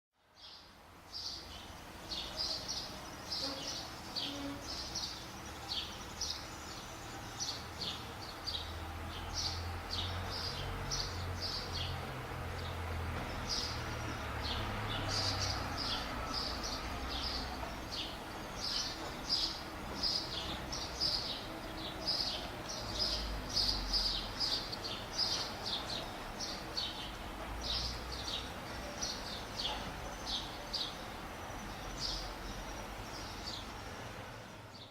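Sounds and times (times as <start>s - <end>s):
small birds chirping: 0.2s - 34.9s.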